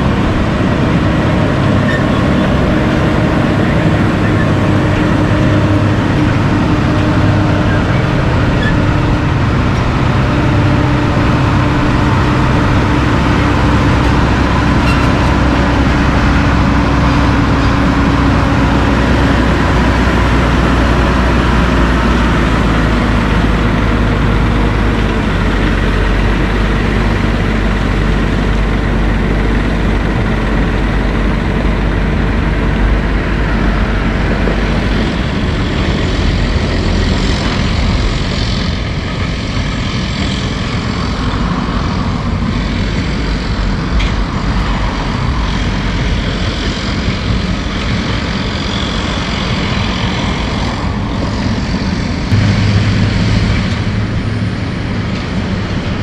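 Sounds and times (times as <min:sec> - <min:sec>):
heavy diesel truck engines: 0:00.0 - 0:56.0.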